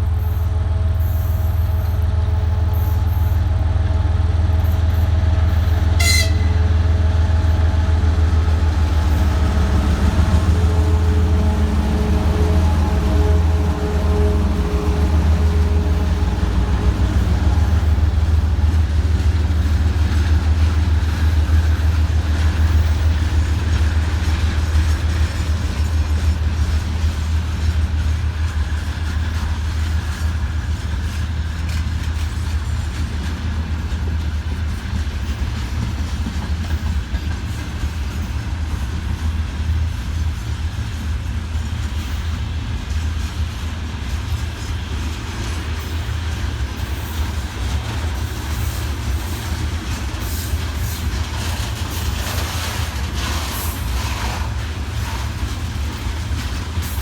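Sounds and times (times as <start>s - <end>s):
freight train rumble: 0.0s - 57.0s
locomotive engine hum: 0.0s - 57.0s
train wheel clatter: 0.0s - 57.0s.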